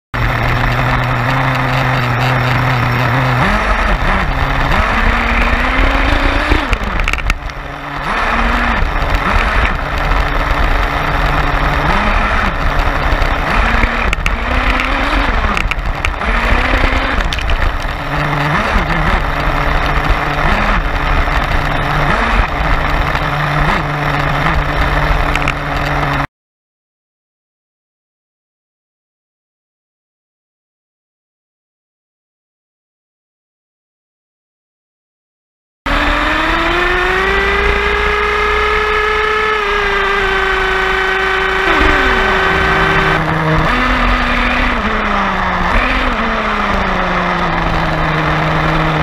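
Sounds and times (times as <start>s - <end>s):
small engine idling and revving: 0.2s - 26.3s, 35.9s - 49.0s.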